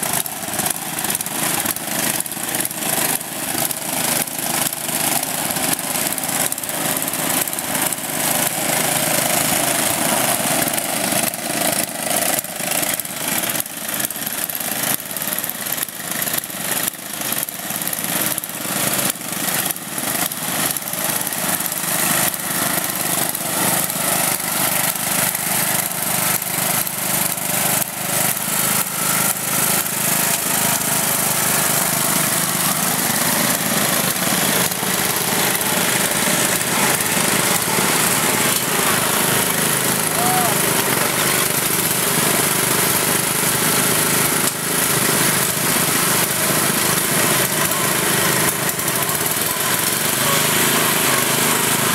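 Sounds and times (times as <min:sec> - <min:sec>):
riding lawn mower engines: 0:00.0 - 0:51.9.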